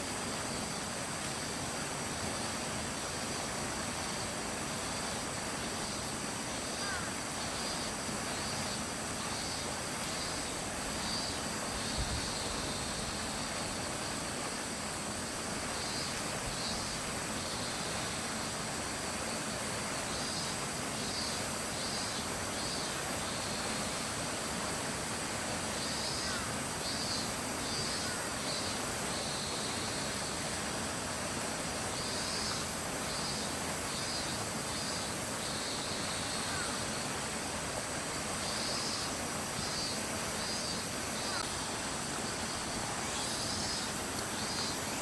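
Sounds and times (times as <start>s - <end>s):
high insect drone: 0.0s - 45.0s
pulsing insect call: 0.1s - 45.0s.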